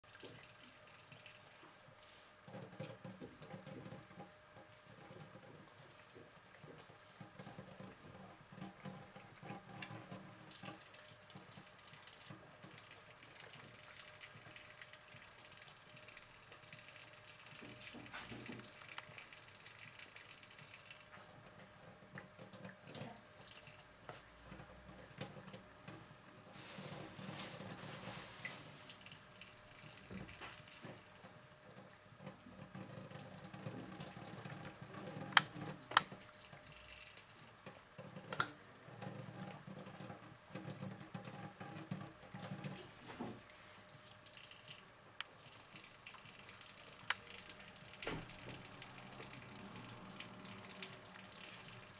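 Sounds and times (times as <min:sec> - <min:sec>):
water drips and splashes: 0:00.0 - 0:51.9
water trickling from tap: 0:00.0 - 0:51.9.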